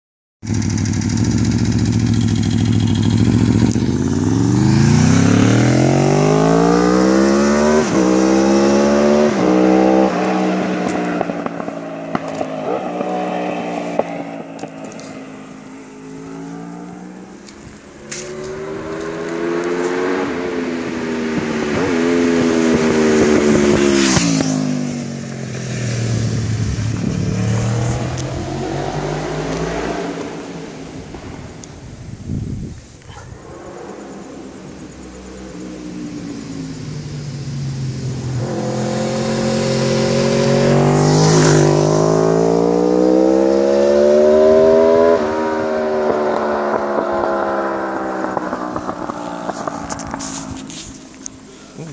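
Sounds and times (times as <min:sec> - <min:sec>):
motorcycle engine revving: 0:00.4 - 0:32.2, 0:33.3 - 0:51.9.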